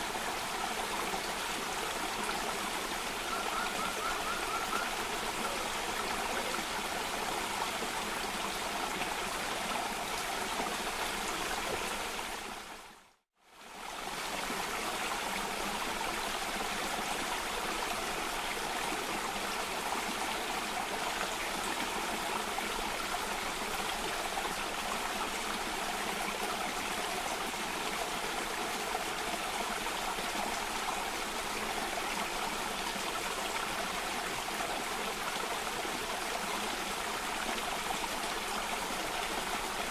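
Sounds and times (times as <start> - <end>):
stream water rushing and splashing: 0.0 - 39.9.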